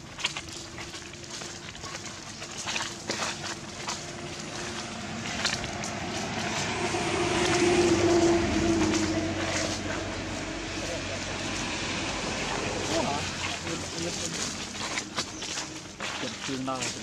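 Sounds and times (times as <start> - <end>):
dry leaves crackling: 0.0 - 17.0
steady low hum: 0.0 - 17.0.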